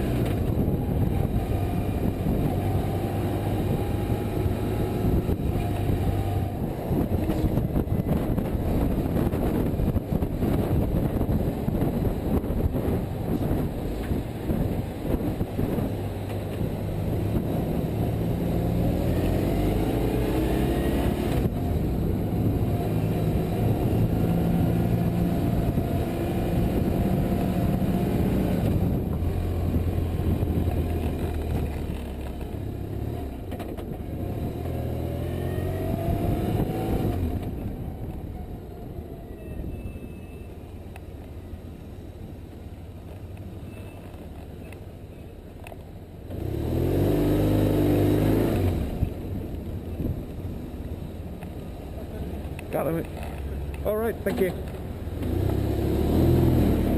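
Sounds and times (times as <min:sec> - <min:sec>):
motorcycle engine shifting gears: 0:00.0 - 0:39.8, 0:42.2 - 0:56.9.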